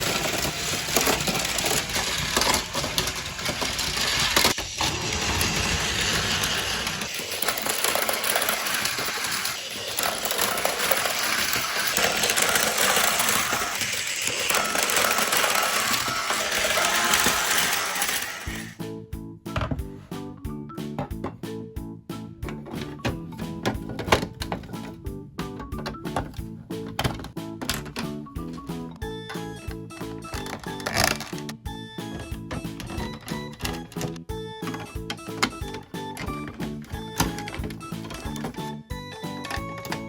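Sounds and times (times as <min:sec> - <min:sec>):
toy vehicles clattering on plastic track: 0:00.0 - 0:18.8, 0:25.7 - 0:28.6, 0:29.3 - 0:40.0.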